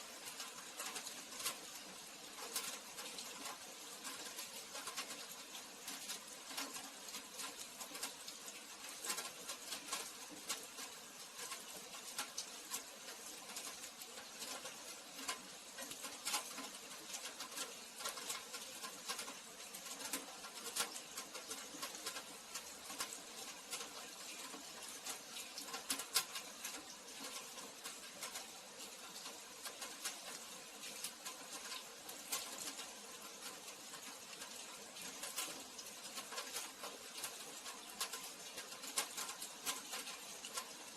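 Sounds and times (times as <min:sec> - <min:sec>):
rain pattering on hard surface: 0:00.0 - 0:40.9.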